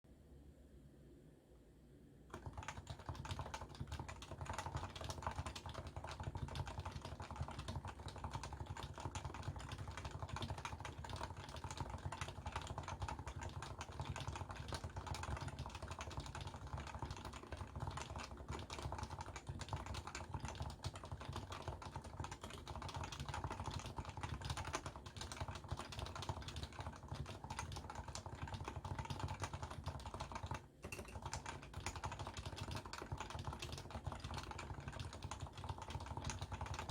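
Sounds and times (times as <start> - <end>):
keyboard typing: 2.3 - 36.9.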